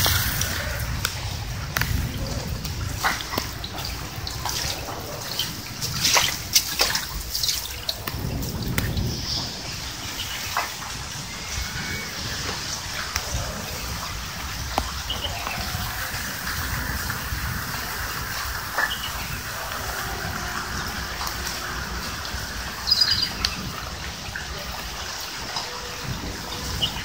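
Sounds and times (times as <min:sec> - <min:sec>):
heavy rain on concrete: 0:00.0 - 0:27.0
water trickling and dripping: 0:00.0 - 0:27.0.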